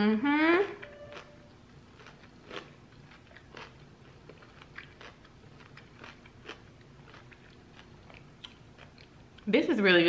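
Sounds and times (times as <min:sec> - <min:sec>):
person chewing crunchy snack: 0:00.9 - 0:09.5.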